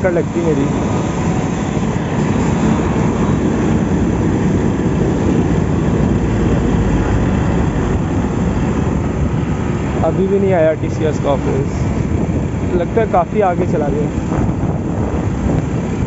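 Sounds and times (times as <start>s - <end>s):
motorcycle engine and road noise: 0.0s - 16.0s
wind rumble on microphone: 0.0s - 16.0s.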